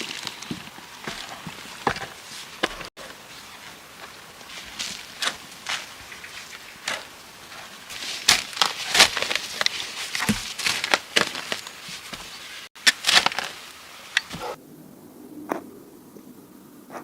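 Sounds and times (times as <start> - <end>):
dry wood crackling: 0.0 - 14.6.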